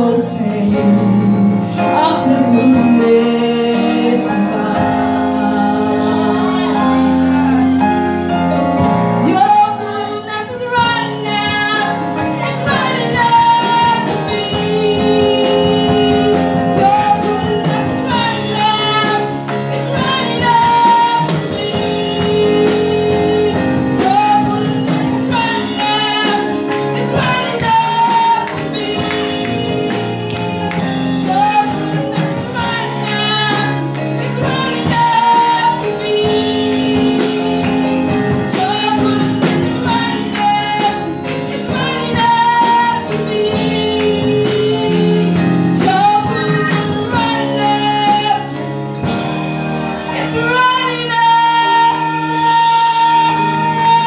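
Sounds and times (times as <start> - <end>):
live band accompaniment: 0.0 - 54.0
woman singing gospel: 0.0 - 54.0.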